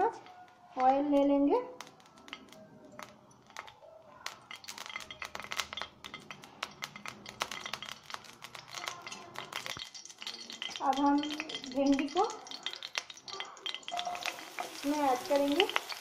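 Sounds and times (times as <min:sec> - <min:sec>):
oil crackling in frying pan: 0:00.0 - 0:16.0.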